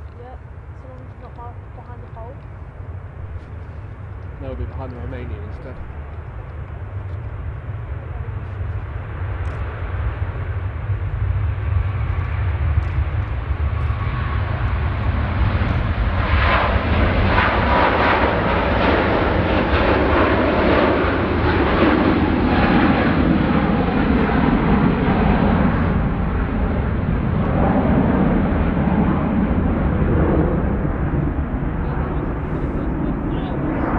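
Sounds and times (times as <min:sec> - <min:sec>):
jet airliner engines roaring: 0:00.0 - 0:33.9.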